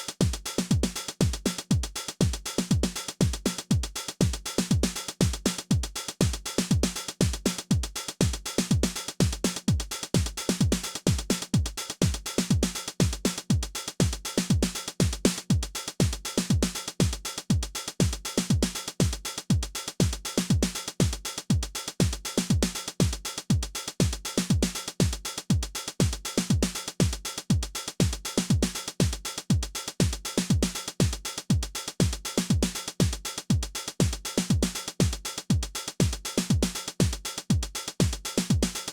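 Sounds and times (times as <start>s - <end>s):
hi-hats and cymbals: 0.0s - 38.9s
kick drums: 0.0s - 38.9s.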